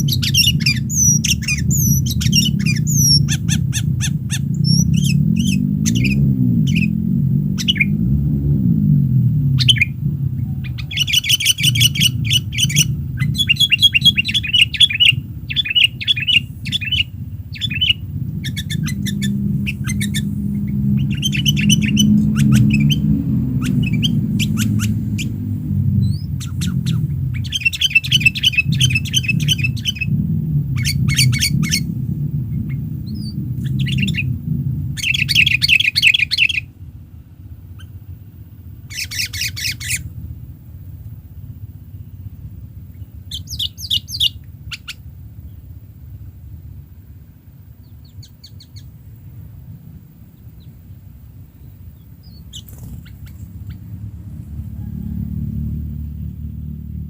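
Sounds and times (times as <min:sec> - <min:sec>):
birds singing chattering phrases: 0:00.0 - 0:08.1, 0:09.4 - 0:36.7, 0:37.7 - 0:45.7, 0:47.7 - 0:54.1
steady low rumble: 0:00.0 - 0:57.0.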